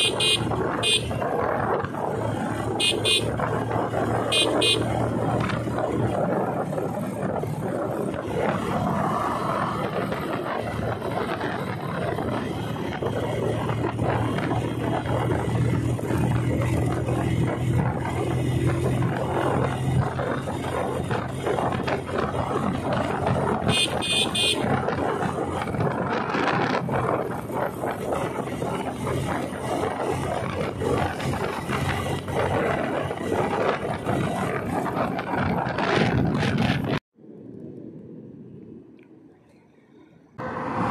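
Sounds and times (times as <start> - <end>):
motorcycle engine running: 0.0 - 37.0
wind and road noise: 0.0 - 40.9.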